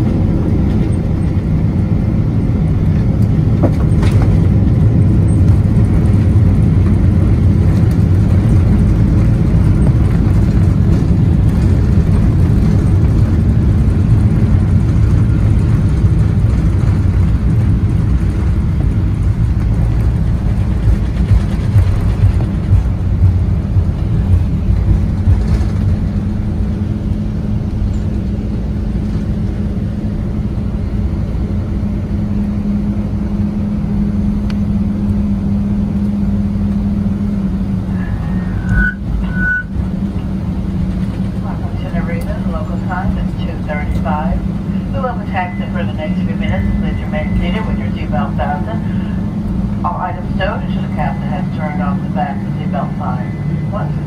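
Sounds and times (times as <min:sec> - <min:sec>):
aircraft wheels and engines rumbling: 0:00.0 - 0:54.0
steady hum: 0:00.0 - 0:54.0.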